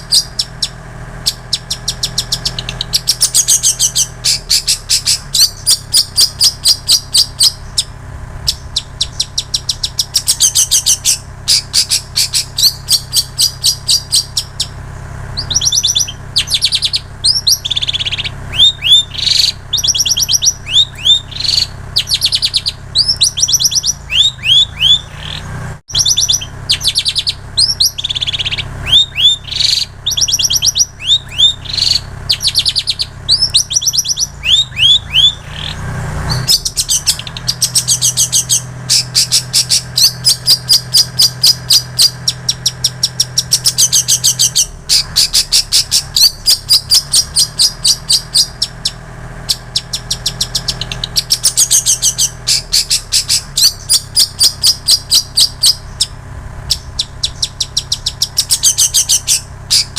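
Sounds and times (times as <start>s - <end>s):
bird down-slurred whistles: 0.0s - 7.9s, 8.5s - 56.1s, 56.7s - 59.9s
bird rapidly repeated chips: 0.0s - 7.9s, 8.5s - 56.1s, 56.7s - 59.9s.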